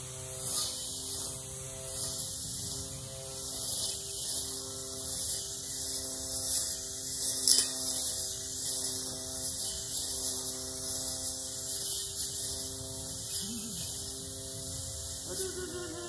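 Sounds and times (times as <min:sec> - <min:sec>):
weed eater motor whining: 0:00.0 - 0:16.0
blade cutting hiss: 0:00.4 - 0:16.0.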